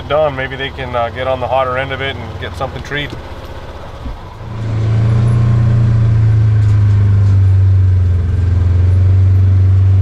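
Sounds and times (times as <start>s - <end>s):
vehicle engine low drone: 0.0s - 10.0s.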